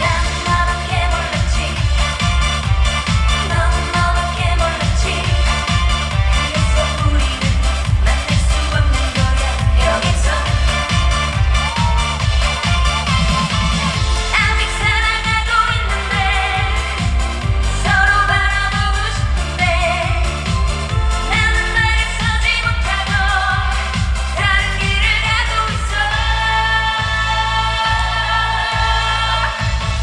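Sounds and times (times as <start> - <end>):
amplified backing track with beat: 0.0 - 30.0
woman singing: 0.0 - 30.0.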